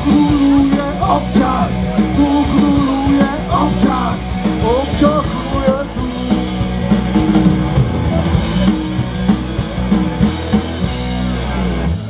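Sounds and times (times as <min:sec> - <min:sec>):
punk rock band playing live: 0:00.0 - 0:12.0.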